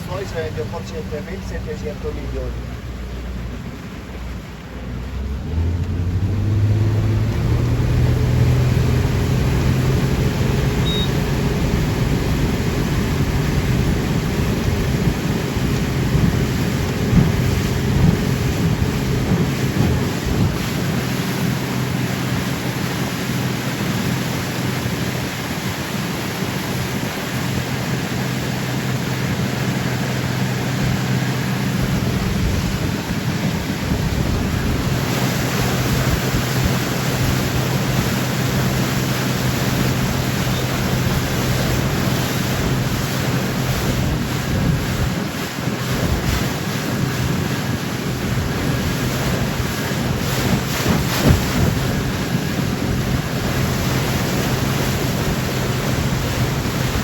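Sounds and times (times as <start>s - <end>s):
boat engine drone: 0.0s - 57.0s
water rushing past hull: 0.0s - 57.0s
wind buffeting microphone: 5.9s - 57.0s.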